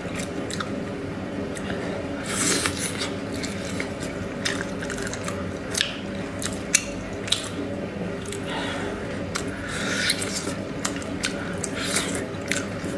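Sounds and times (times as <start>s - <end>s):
chewing and smacking mouth sounds: 0.1s - 0.8s, 1.5s - 8.5s, 9.2s - 12.9s.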